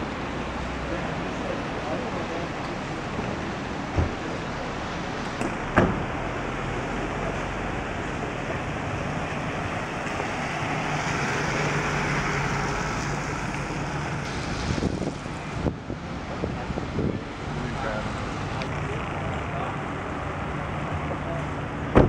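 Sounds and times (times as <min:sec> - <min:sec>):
tyres hissing on wet road: 0:00.0 - 0:21.9.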